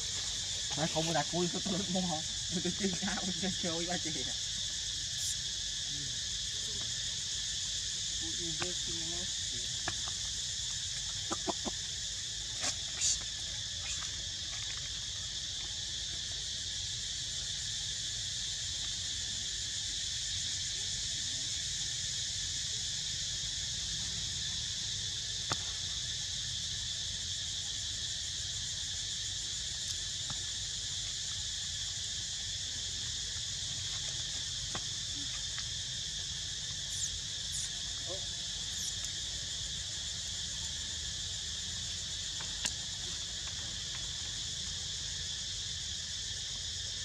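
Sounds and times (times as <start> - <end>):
insect chorus buzzing: 0.0 - 47.0.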